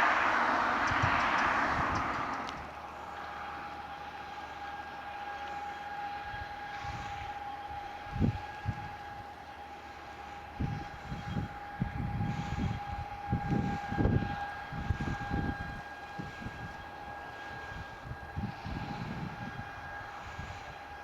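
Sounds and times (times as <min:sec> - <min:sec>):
wind buffeting microphone: 0:00.0 - 0:04.4, 0:05.6 - 0:21.0
slurry tanker pump whine: 0:00.0 - 0:21.0.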